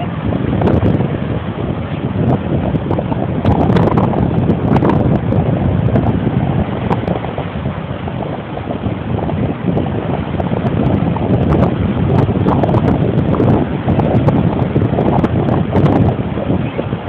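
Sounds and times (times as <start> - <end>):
surf breaking on shore: 0.0 - 17.0
wind buffeting microphone: 0.0 - 17.0.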